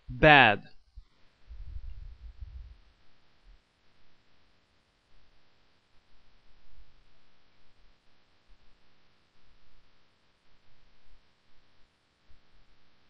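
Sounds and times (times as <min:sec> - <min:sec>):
microphone hiss and hum: 0:00.0 - 0:13.0.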